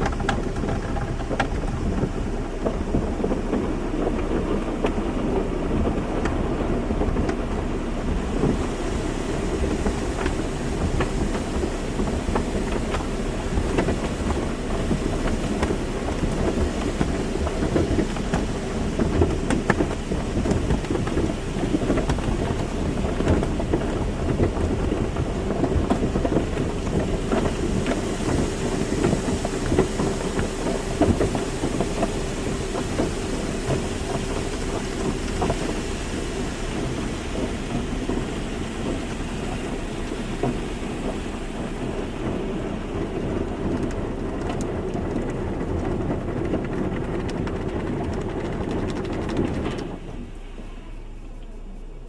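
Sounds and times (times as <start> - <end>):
machine hum: 0.0 - 52.0
water jets spraying on car: 0.0 - 52.0.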